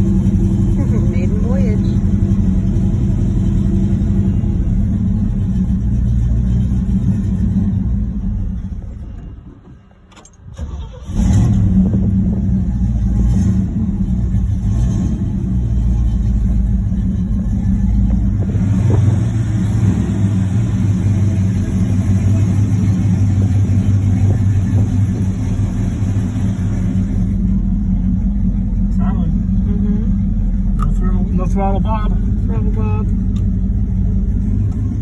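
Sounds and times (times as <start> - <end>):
car engine revving and idling: 0.0 - 9.6, 10.6 - 35.0.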